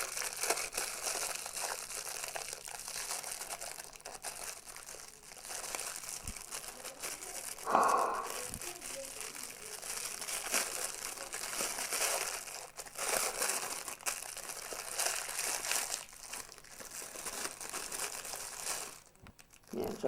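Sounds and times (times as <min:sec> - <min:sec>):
packaging crinkling and rustling: 0:00.0 - 0:07.6, 0:08.3 - 0:20.0.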